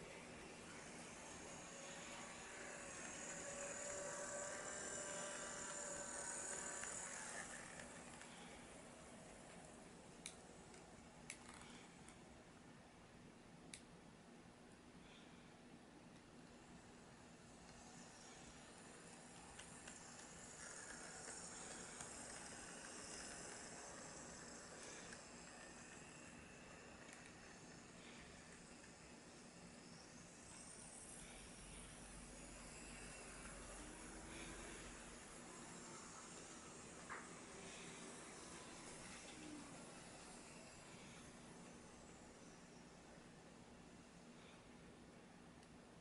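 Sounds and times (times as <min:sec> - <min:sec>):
wheels rolling on rails: 0:00.0 - 0:11.9, 0:16.7 - 0:42.8
model locomotive motor whine: 0:00.0 - 0:12.2, 0:15.0 - 0:45.8.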